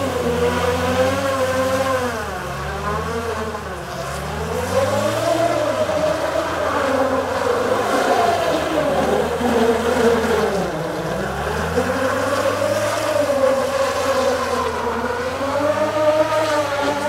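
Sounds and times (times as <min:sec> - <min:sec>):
diesel engine revving hard: 0:00.0 - 0:17.0
wheels spinning through slush and mud: 0:00.0 - 0:17.0.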